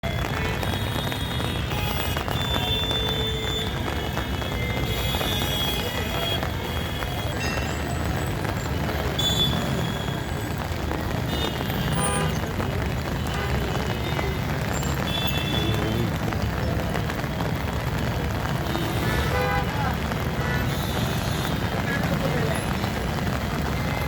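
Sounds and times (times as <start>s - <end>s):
rumble of vehicles: 0.0s - 24.0s.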